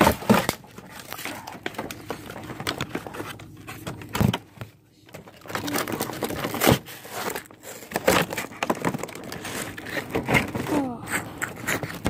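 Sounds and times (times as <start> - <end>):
cardboard rustling and scraping: 0.0 - 12.0.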